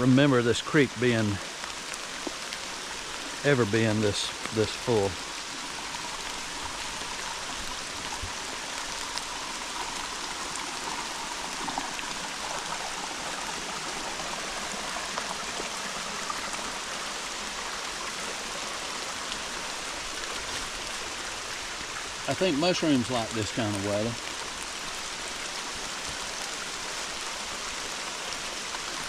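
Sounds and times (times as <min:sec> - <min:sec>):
flooded creek roaring: 0:00.0 - 0:29.0
rain falling: 0:00.0 - 0:29.0.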